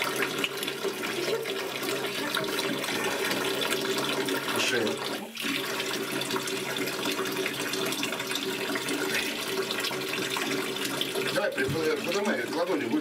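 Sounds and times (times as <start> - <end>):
water running from bathtub tap: 0.0 - 13.0.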